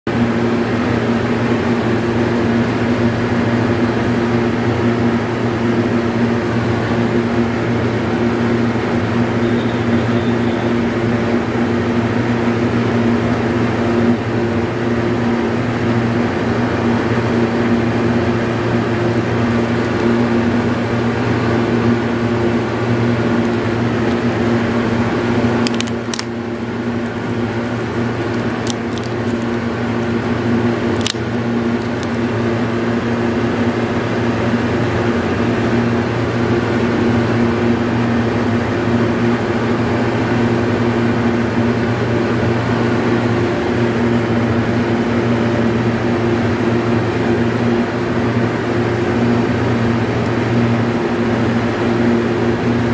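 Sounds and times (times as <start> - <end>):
mechanical hum: 0.1 - 52.9.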